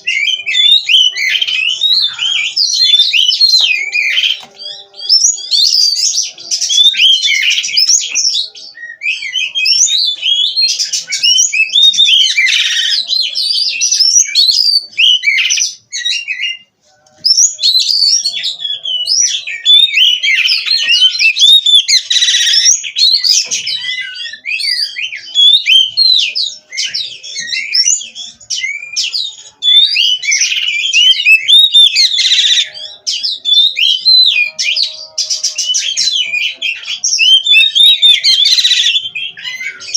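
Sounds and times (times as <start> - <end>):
songbird whistling and chirping: 0.0 - 39.9.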